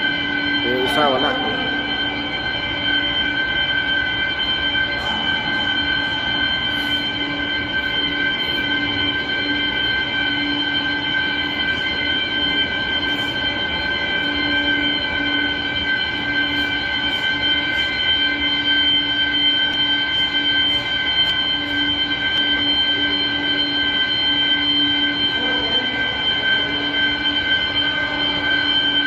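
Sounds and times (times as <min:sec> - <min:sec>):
fire alarm high-pitched tone: 0:00.0 - 0:29.0
pulsing lower alarm tone: 0:00.0 - 0:29.0.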